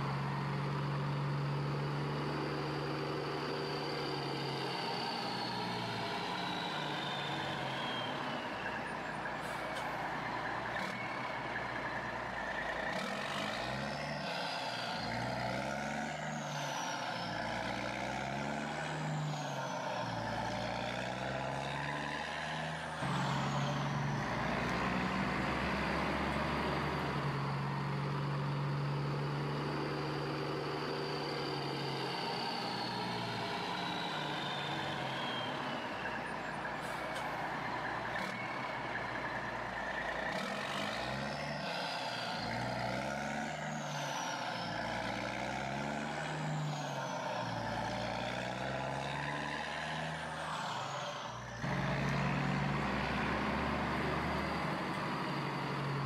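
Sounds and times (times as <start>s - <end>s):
diesel engine idling and revving: 0.0s - 56.0s.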